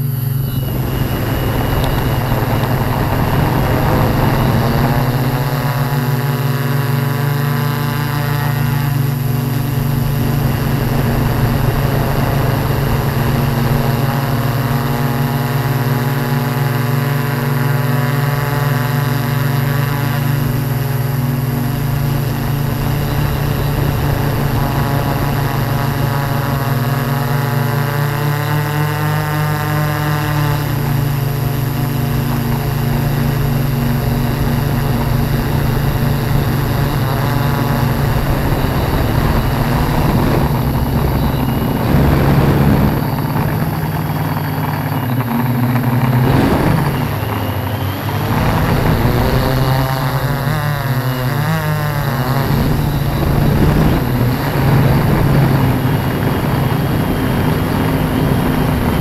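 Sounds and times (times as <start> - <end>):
drone propellers humming: 0.0 - 59.0.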